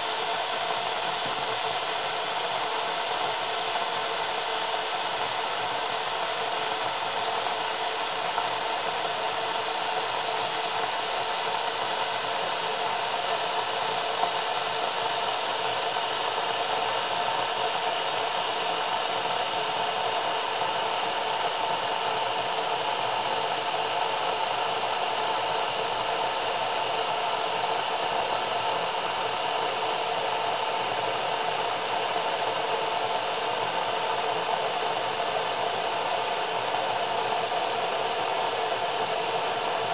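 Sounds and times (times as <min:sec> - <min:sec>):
electric coffee pot hissing: 0:00.0 - 0:39.9.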